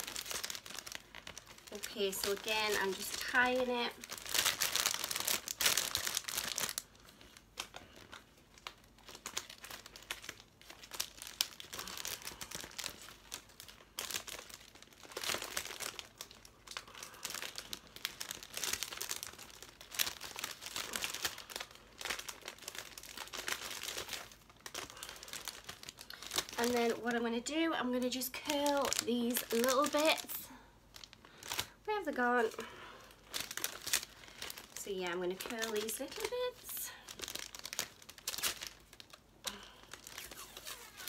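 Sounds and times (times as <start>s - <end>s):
cellophane crinkling and rustling: 0.0s - 41.0s.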